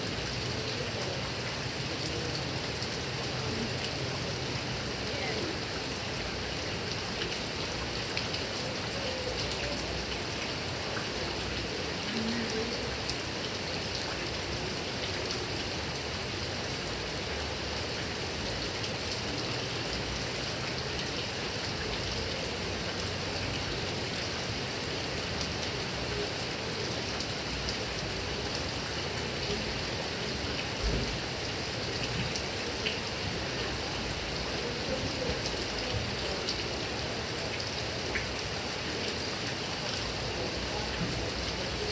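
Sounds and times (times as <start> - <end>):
heavy rain on leaves: 0.0 - 41.9.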